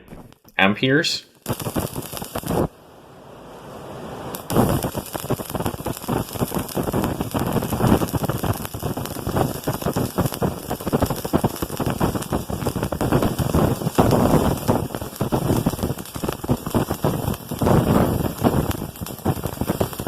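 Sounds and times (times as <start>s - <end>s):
welding arc crackling and sizzling: 0.0s - 0.6s, 1.3s - 2.8s, 3.6s - 20.0s.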